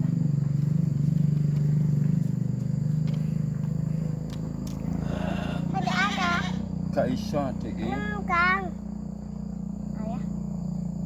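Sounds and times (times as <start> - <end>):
engine running with low pulsing: 0.0 - 11.0.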